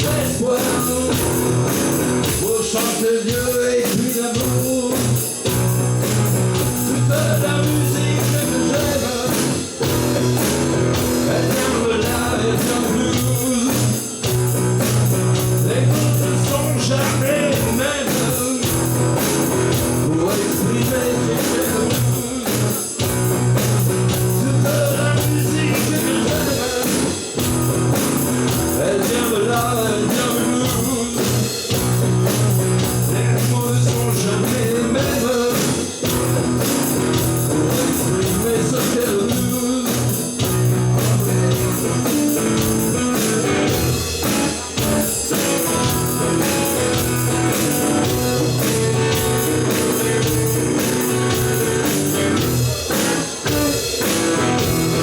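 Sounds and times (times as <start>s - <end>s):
electric guitar: 0.0s - 55.0s
live blues-rock band: 0.0s - 55.0s.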